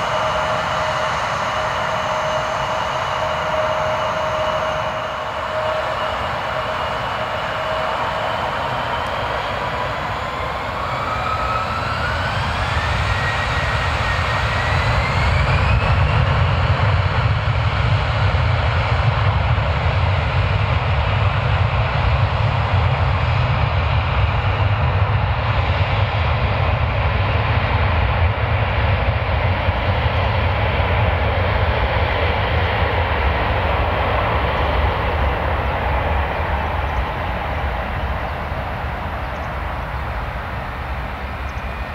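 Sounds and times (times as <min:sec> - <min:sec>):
jet engines spooling up: 0:00.0 - 0:41.9.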